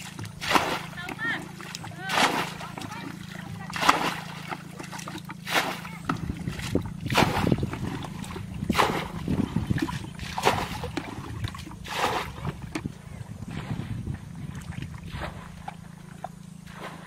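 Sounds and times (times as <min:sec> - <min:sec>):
water splashing from bucket: 0:00.0 - 0:17.0.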